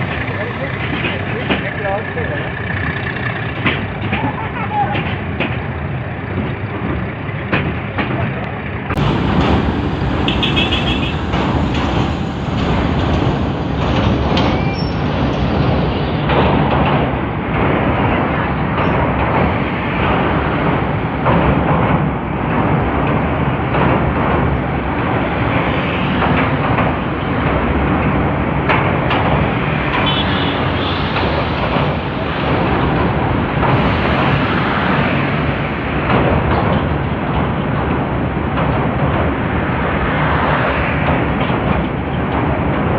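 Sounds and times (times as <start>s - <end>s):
train rumbling on rails: 0.0s - 42.9s.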